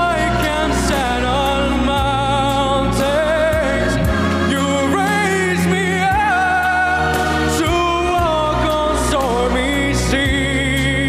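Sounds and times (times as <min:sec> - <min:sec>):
instrumental backing music: 0:00.0 - 0:11.0
man singing a slow ballad: 0:00.0 - 0:11.0.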